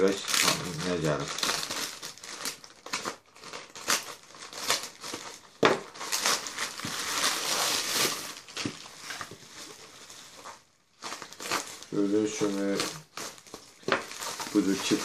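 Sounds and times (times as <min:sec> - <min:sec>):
knife cutting plastic bag: 0:00.0 - 0:09.3, 0:11.0 - 0:15.0
plastic crinkling and tearing: 0:00.0 - 0:15.0.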